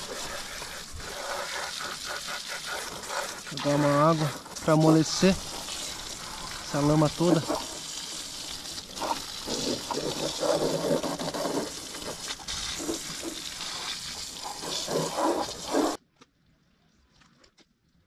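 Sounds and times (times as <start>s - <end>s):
water spray hissing and splashing: 0.0s - 16.0s.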